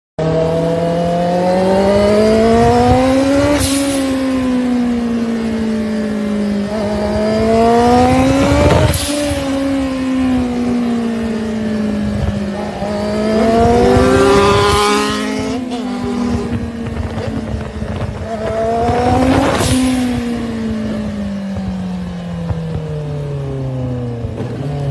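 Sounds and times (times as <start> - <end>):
motorcycle engine revving: 0.2 - 24.9.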